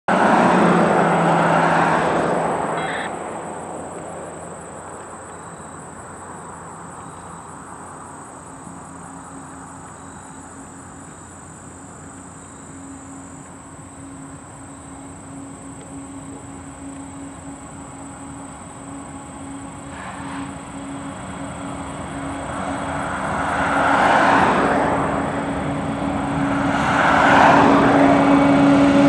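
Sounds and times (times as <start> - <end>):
car passing: 0.1 - 29.0
diesel locomotives humming: 0.1 - 29.0
insects chirring: 1.2 - 27.5.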